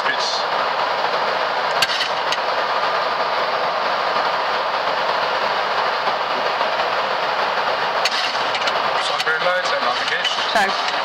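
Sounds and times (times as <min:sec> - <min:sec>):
airflow past cockpit: 0:00.0 - 0:11.0
jet engines at climb thrust: 0:00.0 - 0:11.0.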